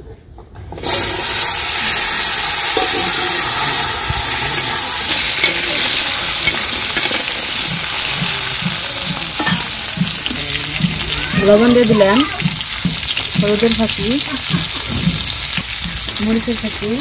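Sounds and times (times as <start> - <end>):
potatoes sizzling in oil: 0.8 - 17.0
metal spatula stirring: 2.4 - 16.9.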